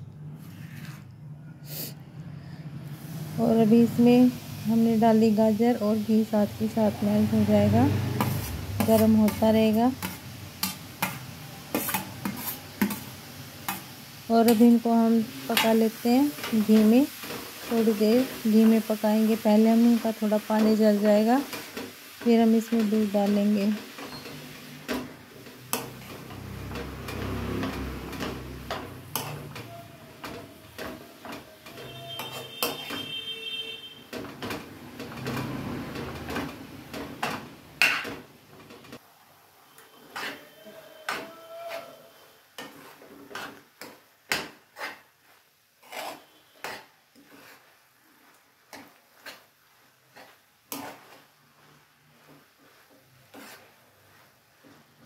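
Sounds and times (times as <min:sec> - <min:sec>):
soft frying hiss: 0:02.8 - 0:55.0
spoon scraping metal pan: 0:06.2 - 0:39.0, 0:39.7 - 0:55.0.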